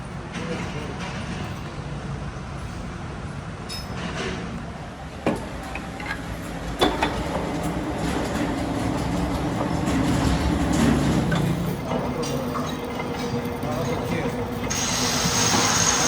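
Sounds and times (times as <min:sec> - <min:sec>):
workshop machinery humming: 0:01.5 - 0:16.0.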